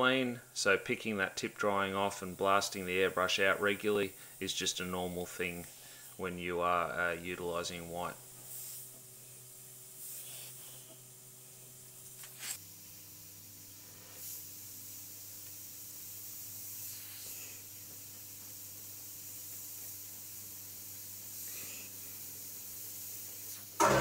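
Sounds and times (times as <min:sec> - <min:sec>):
airbrush hissing: 0:01.8 - 0:24.0.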